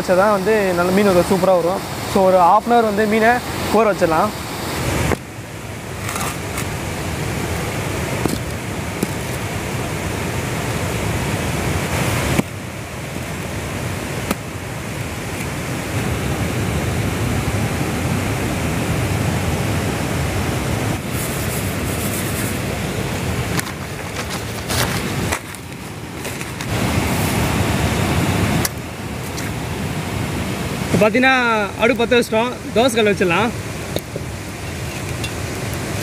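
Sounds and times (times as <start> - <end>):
water rushing over spillway: 0.0 - 36.0.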